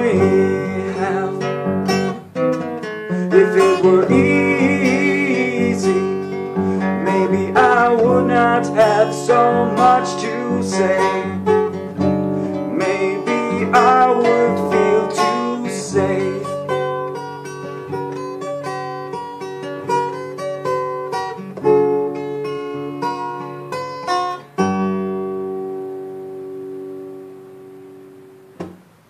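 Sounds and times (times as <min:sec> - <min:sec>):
fingerpicked acoustic guitar: 0:00.0 - 0:29.0.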